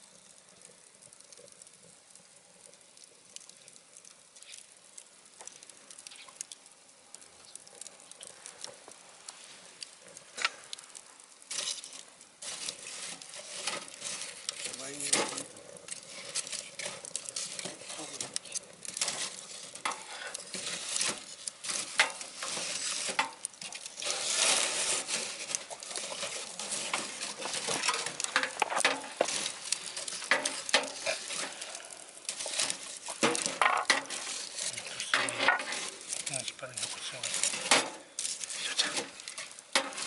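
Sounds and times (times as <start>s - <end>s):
fire hissing: 0.0s - 40.0s
wood fire crackling and popping: 0.0s - 40.0s.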